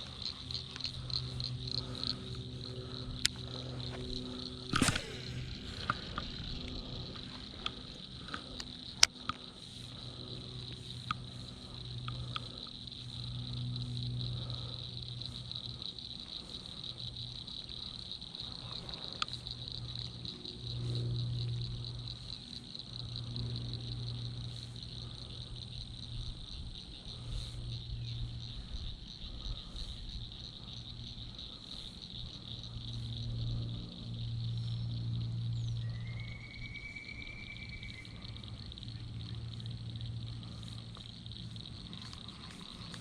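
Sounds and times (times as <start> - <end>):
chorus of calling wildlife: 0.0 - 43.0
low hum: 0.0 - 43.0.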